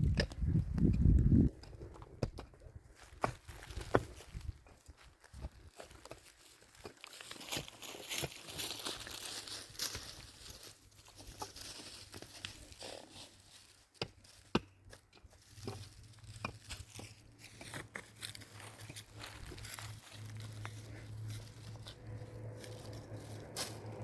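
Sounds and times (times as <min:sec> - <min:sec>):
rustling and crunching with clicks: 0:00.0 - 0:24.0.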